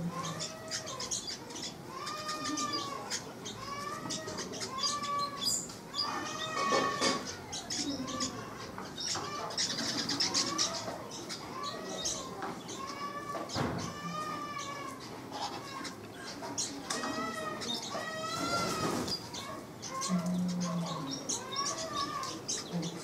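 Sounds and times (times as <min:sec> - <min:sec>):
birds chattering high chips: 0:00.0 - 0:23.0.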